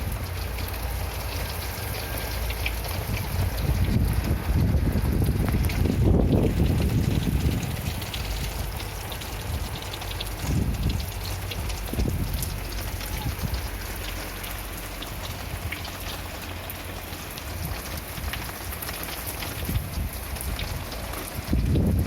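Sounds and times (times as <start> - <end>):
low rumbles: 0.0 - 22.0
steady rain falling: 0.0 - 22.0.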